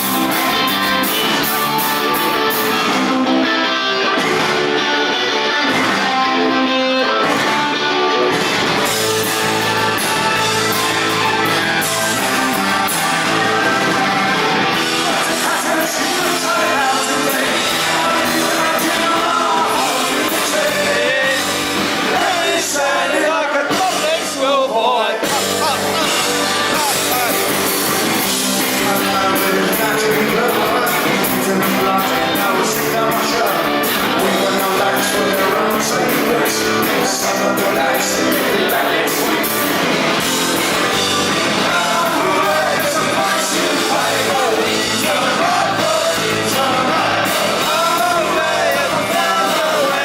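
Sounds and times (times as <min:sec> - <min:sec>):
electric guitar: 0:00.0 - 0:50.0
live rock band playing: 0:00.0 - 0:50.0
person singing lead vocal: 0:09.1 - 0:50.0.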